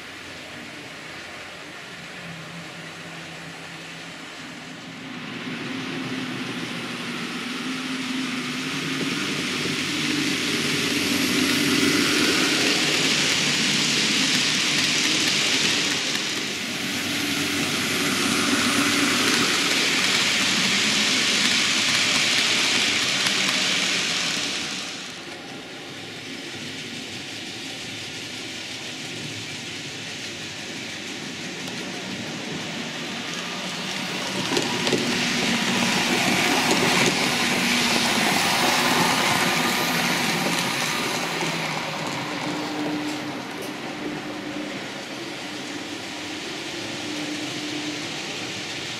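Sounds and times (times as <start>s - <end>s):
model train wheels rolling on rails: 0.0s - 48.9s.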